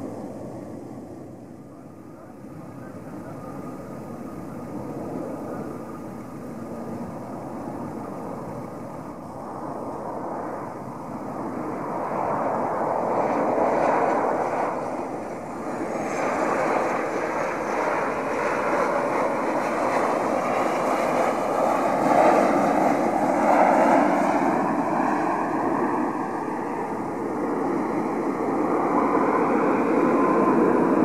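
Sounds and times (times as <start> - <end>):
jet airliner landing: 0.0 - 31.0.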